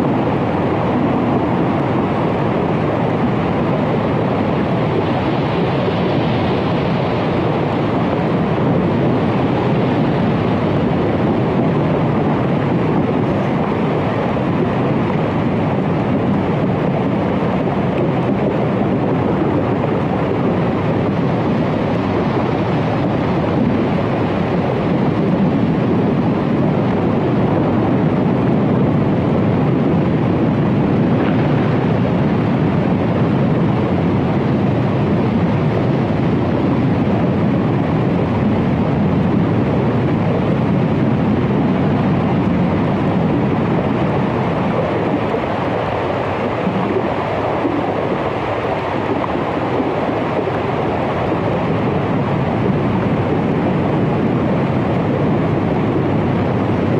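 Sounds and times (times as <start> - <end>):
dense underwater rushing noise: 0.0 - 56.9.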